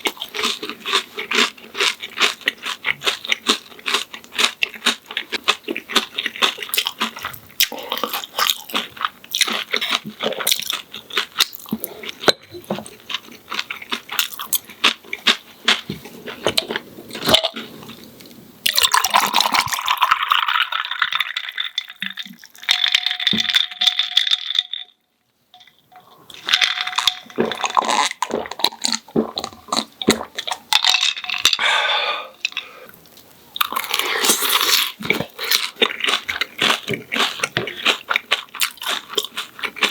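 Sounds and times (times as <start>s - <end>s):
crunching and chewing fried food: 0.0s - 25.0s, 25.6s - 31.6s, 32.4s - 39.9s.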